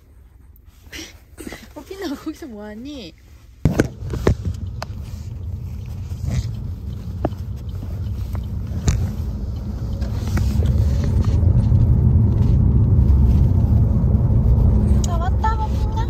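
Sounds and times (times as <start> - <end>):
car cabin rumble: 1.8 - 16.0.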